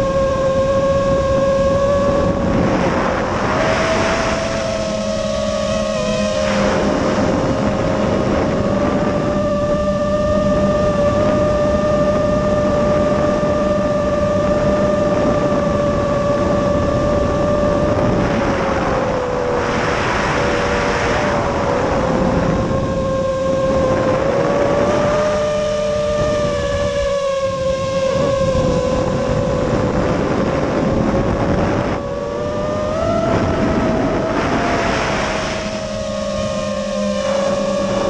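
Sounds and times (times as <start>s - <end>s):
drone motors whining: 0.0s - 38.0s
wind noise: 0.0s - 38.0s.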